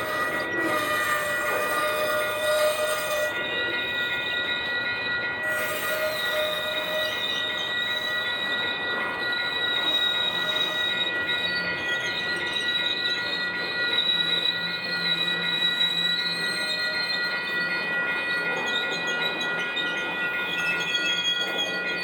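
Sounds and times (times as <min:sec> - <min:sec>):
freight train rumble: 0:00.0 - 0:22.0
steel wheels squealing: 0:00.0 - 0:22.0.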